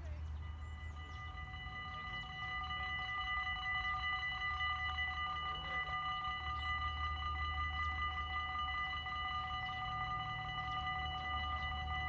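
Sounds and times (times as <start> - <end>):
level crossing bells ringing: 0.0 - 12.0.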